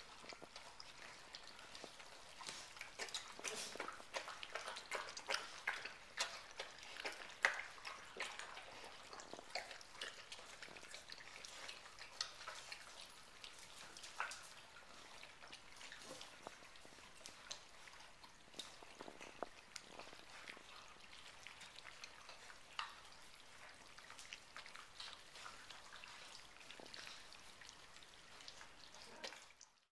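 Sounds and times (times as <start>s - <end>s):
puppies lapping from metal bowls: 0.0s - 29.9s.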